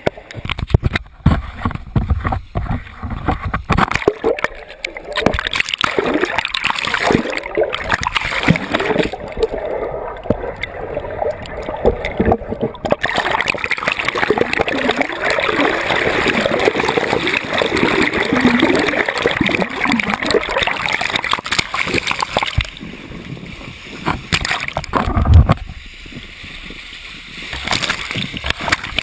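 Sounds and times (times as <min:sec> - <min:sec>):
turbulent water splashing: 0:00.0 - 0:29.0.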